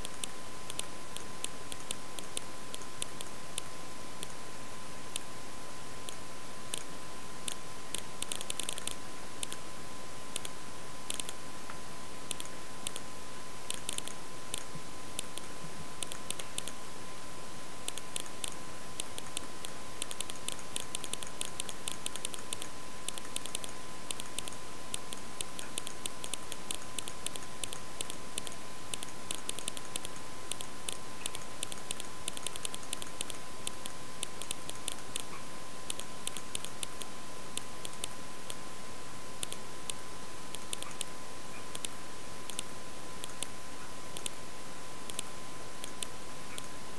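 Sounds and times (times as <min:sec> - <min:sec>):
mouse and keyboard clicking: 0:00.0 - 0:04.4, 0:06.1 - 0:06.9, 0:07.5 - 0:09.6, 0:10.4 - 0:11.4, 0:12.3 - 0:13.0, 0:13.7 - 0:16.8, 0:17.9 - 0:38.6, 0:39.4 - 0:44.4, 0:45.1 - 0:46.8.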